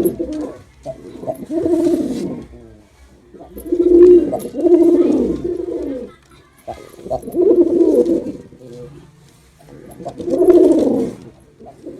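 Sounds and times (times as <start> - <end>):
pigeon cooing: 0.0 - 11.9.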